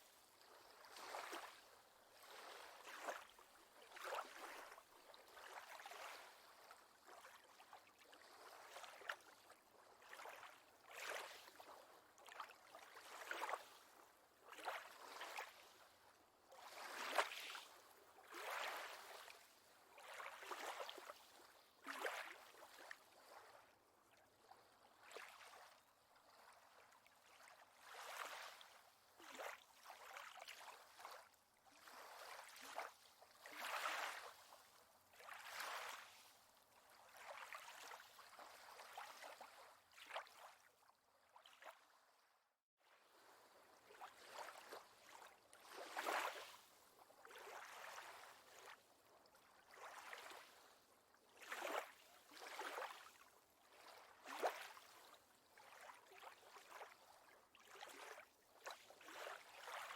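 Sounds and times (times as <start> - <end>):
water lapping at a shore: 0.0 - 59.9.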